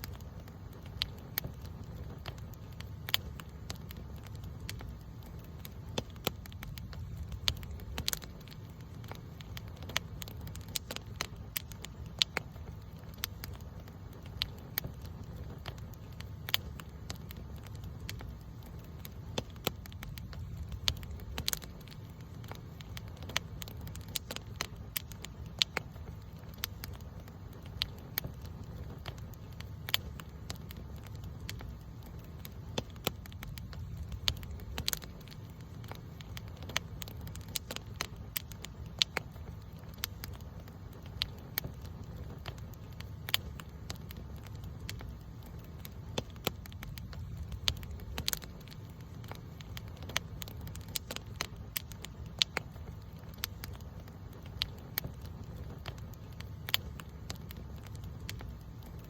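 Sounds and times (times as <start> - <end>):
campfire crackling and popping: 0.0 - 59.0
low rumble of flame: 0.0 - 59.0.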